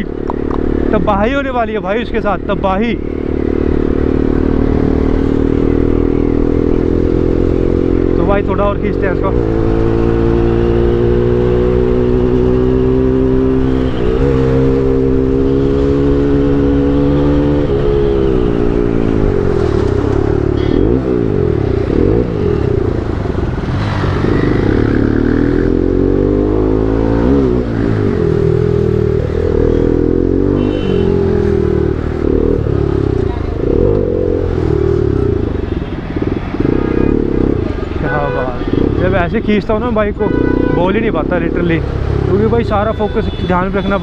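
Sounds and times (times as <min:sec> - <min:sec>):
motorcycle engine at high revs: 0:00.0 - 0:44.0.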